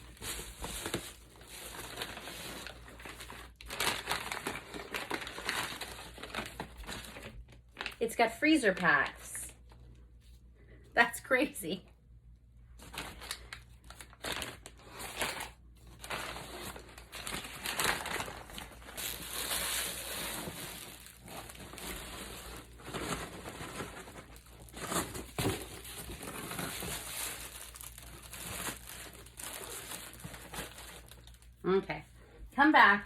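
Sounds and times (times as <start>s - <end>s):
packaging crinkling and rustling: 0.0s - 9.8s, 12.8s - 31.6s.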